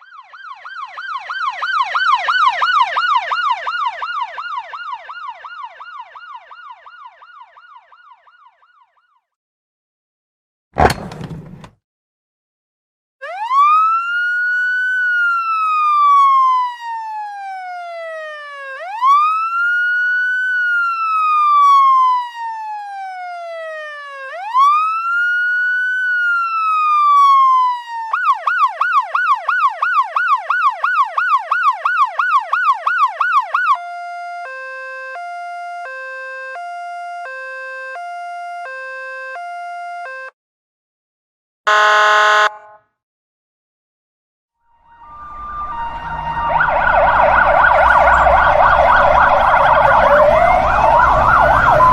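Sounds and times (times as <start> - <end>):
ambulance siren: 0.0 - 9.3, 13.2 - 40.4, 41.7 - 42.8, 44.7 - 51.9.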